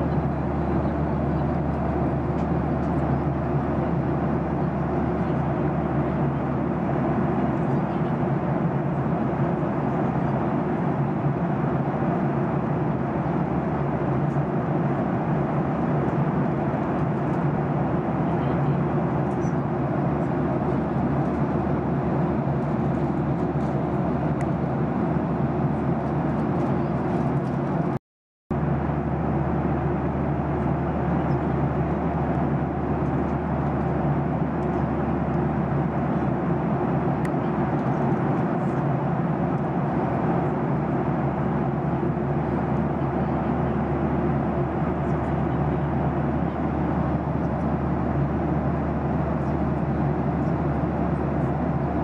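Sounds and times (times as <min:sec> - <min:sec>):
airliner cabin engine noise: 0:00.0 - 0:52.0.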